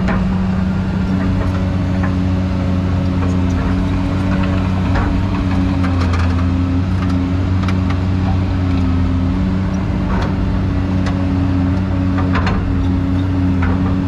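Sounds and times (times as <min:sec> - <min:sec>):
excavator diesel engine: 0:00.0 - 0:14.0
metal clanks and knocks: 0:00.0 - 0:14.0.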